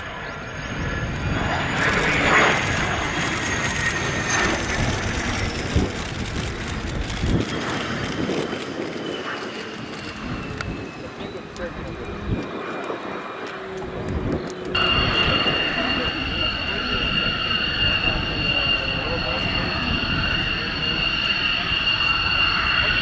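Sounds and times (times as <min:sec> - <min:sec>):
jet roar with turbine whine: 0:00.0 - 0:23.0.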